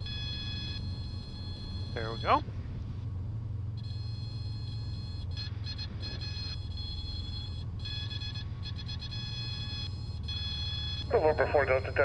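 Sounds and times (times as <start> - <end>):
aircraft engine low drone: 0.0 - 12.0.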